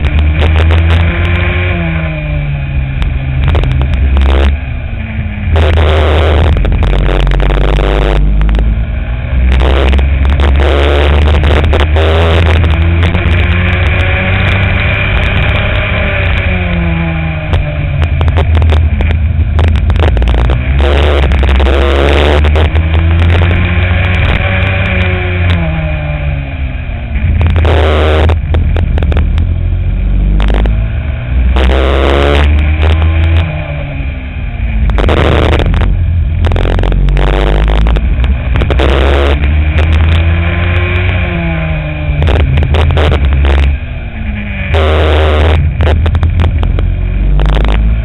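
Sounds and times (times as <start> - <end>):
racing kart engine at speed: 0.0 - 48.0.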